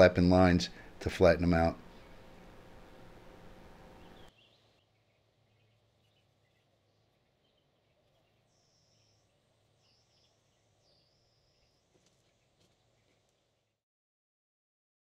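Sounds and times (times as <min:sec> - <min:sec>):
high buzzing calls: 0:00.0 - 0:13.5
low hum: 0:00.0 - 0:13.8.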